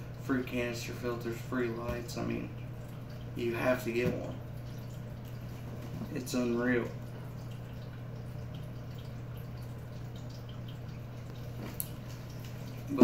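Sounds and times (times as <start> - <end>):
aquarium low hum: 0.0 - 13.0
water trickling: 0.0 - 13.0.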